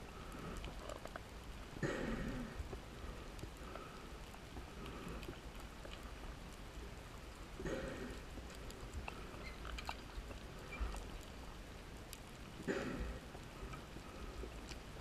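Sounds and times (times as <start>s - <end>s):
faint clicks: 0.1s - 15.0s.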